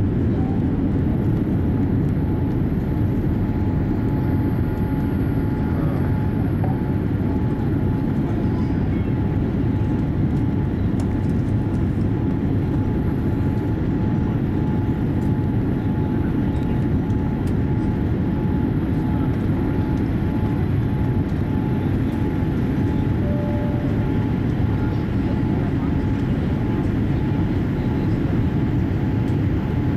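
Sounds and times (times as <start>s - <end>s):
airplane cabin engine roar: 0.0s - 29.9s.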